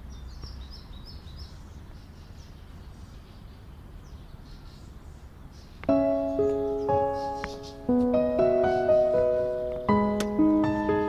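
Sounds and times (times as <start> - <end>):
low outdoor background rumble: 0.0 - 11.0
small birds chirping: 0.0 - 11.0.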